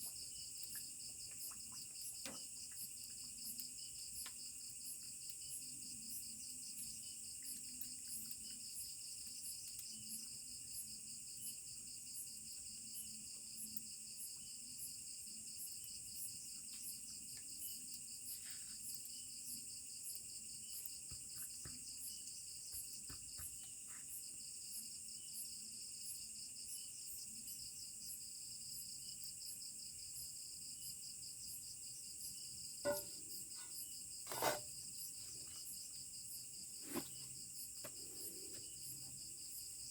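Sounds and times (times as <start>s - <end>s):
crickets and insects chirring: 0.0s - 39.9s.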